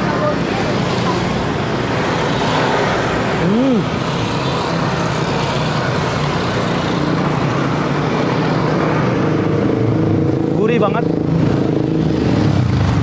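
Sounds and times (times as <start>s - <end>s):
road traffic rush: 0.0s - 13.0s
vehicle engines humming: 0.0s - 13.0s.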